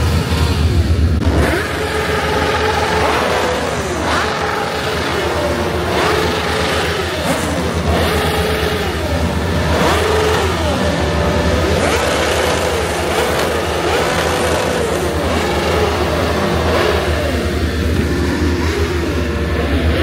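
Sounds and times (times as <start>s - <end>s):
car engines revving past: 0.0s - 20.0s.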